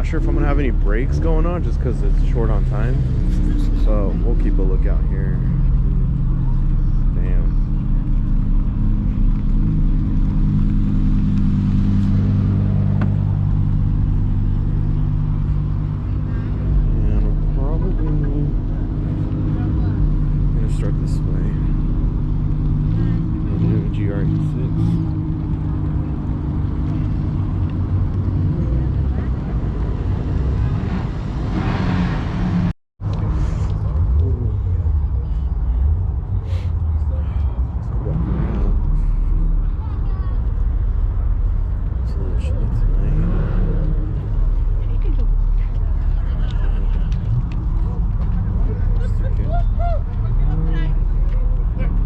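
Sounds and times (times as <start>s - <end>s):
car engine running at low revs: 0.0s - 52.0s.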